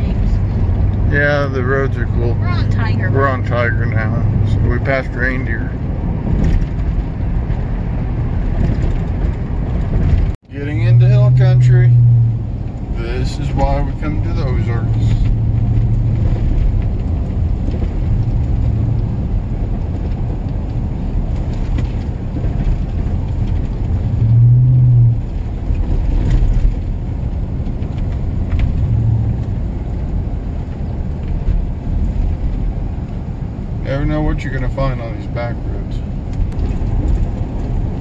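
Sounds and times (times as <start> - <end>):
pickup engine drone: 0.0 - 38.0
tyre rumble on paved road: 5.3 - 33.8, 35.9 - 38.0.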